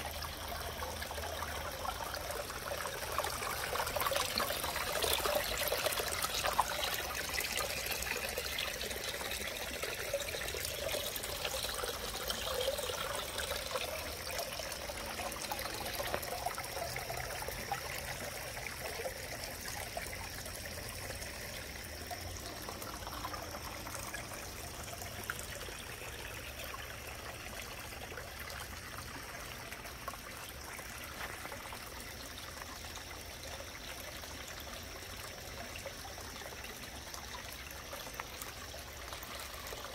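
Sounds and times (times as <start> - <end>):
water trickling down rocks: 0.0 - 39.9.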